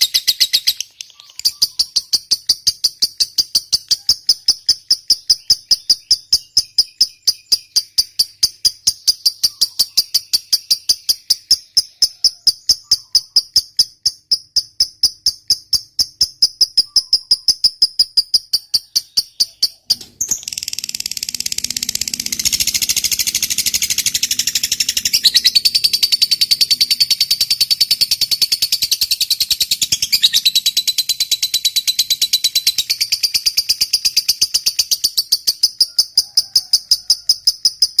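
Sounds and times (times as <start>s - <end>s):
lovebird chattering trill: 0.0s - 38.0s.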